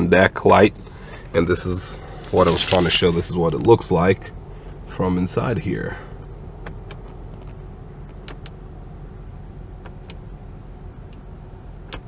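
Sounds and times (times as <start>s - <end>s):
car engine low hum: 0.0s - 12.0s.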